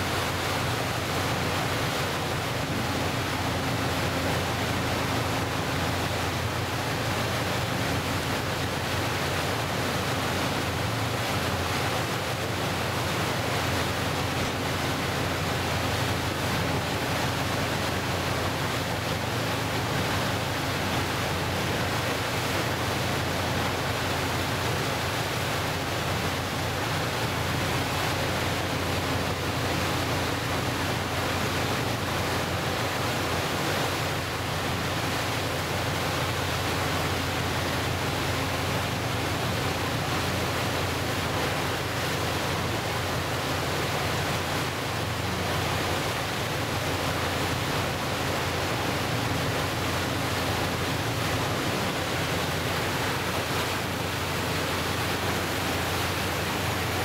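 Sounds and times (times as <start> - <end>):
boat engine hum: 0.0 - 57.0
churning water rushing: 0.0 - 57.0.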